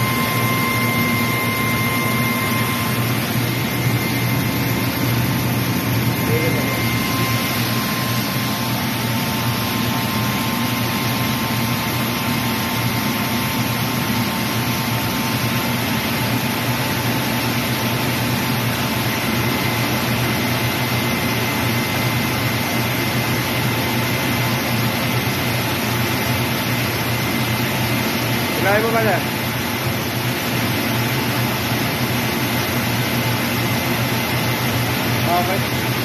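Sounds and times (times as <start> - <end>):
rice milling machine running: 0.0 - 36.0.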